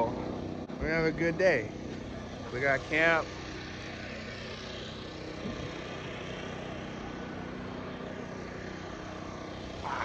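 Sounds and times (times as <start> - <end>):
distant engine drone: 0.0 - 10.0.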